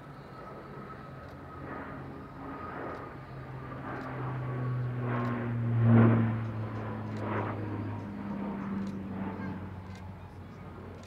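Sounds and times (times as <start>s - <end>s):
turboprop aircraft drone: 0.0s - 11.0s.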